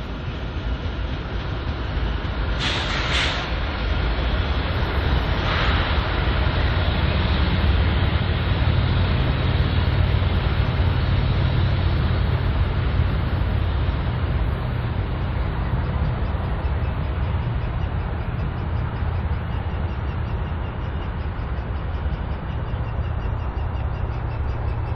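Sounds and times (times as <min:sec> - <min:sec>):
freight train rolling by: 0:00.0 - 0:24.9.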